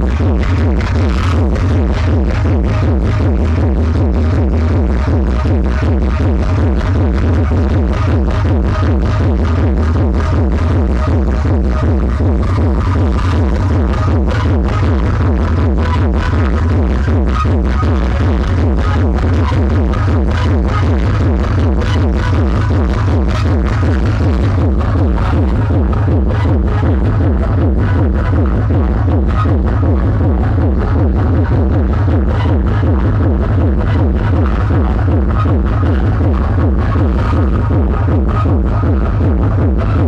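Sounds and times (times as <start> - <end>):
loud electronic dance music: 0.0 - 40.0.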